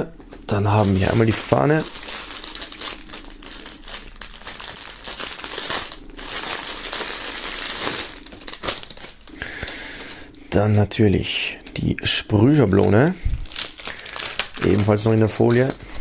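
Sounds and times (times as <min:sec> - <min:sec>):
plastic film crinkling: 0:00.5 - 0:10.4, 0:11.6 - 0:16.0.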